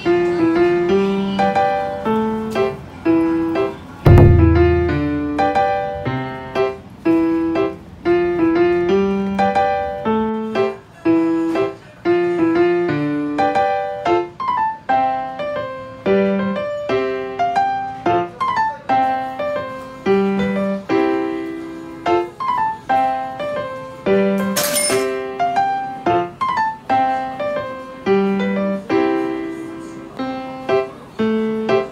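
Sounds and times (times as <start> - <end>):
solo piano melody: 0.0 - 31.9.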